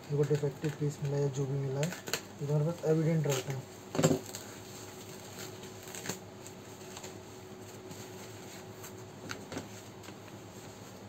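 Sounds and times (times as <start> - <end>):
sharp packaging crackles: 0.0 - 10.2
faint steady hum: 0.0 - 11.0
packaging rustling and crinkling: 0.0 - 11.0.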